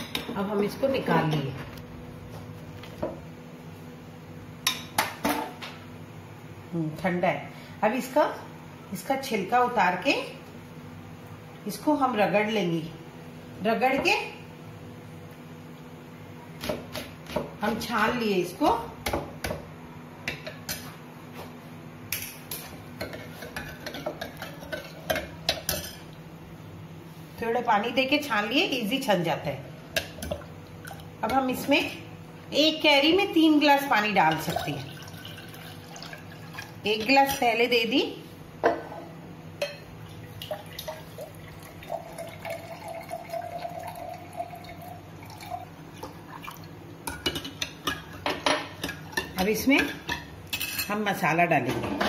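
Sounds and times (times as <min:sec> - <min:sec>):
faint steady hum: 0:00.0 - 0:51.4.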